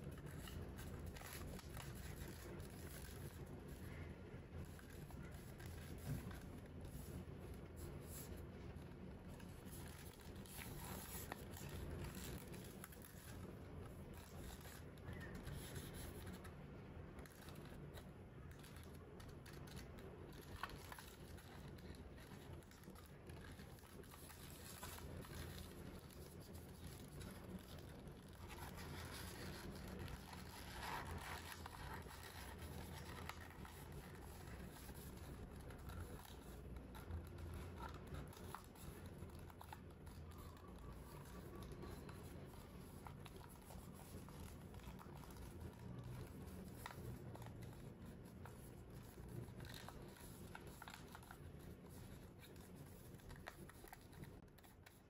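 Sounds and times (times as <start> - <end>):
paper rustling and creasing: 0.0 - 4.0, 4.6 - 55.0.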